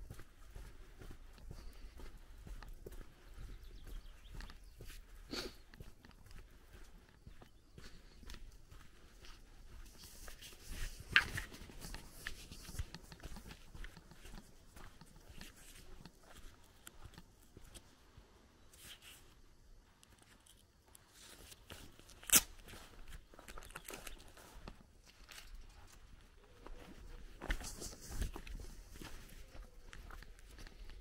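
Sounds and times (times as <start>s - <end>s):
footsteps crunching on dirt: 0.0s - 18.0s, 20.8s - 31.0s.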